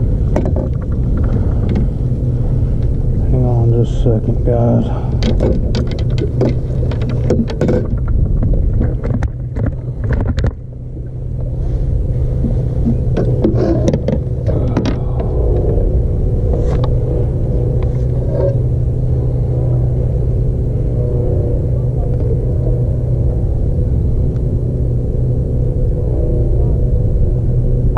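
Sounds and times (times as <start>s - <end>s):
low mechanical hum: 0.0s - 27.9s.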